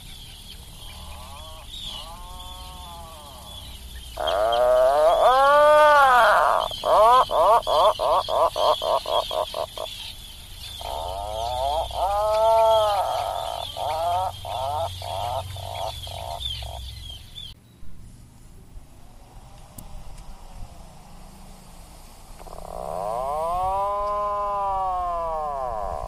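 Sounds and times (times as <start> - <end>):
puffin groaning call: 0.8 - 9.9, 10.8 - 16.8, 19.2 - 26.0.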